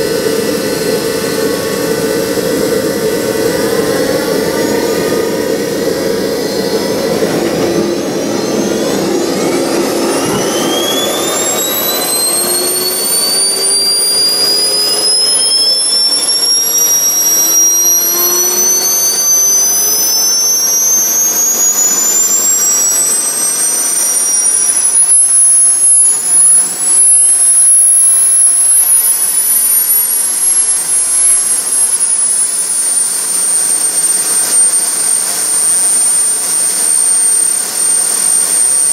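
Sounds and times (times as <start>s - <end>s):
jet turbine whine: 0.0s - 38.9s.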